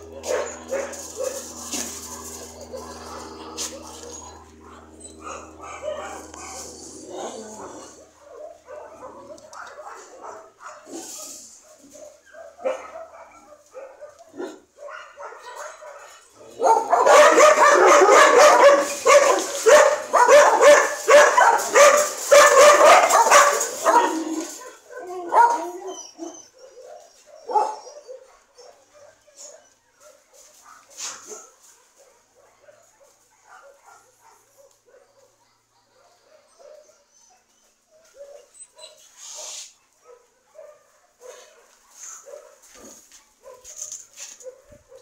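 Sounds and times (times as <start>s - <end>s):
dogs barking rapidly: 0.0s - 37.1s, 38.1s - 45.0s
dogs yipping: 0.0s - 45.0s.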